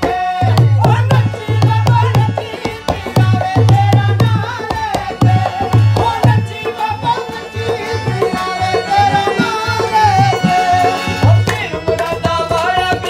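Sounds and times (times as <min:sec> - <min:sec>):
harmonium playing: 0:00.0 - 0:13.0
man singing: 0:00.0 - 0:13.0.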